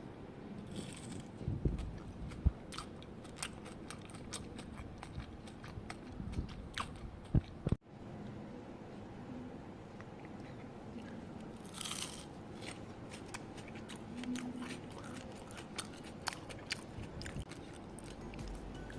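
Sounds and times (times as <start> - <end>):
crunchy food being chewed: 0.6 - 7.8, 10.0 - 18.9.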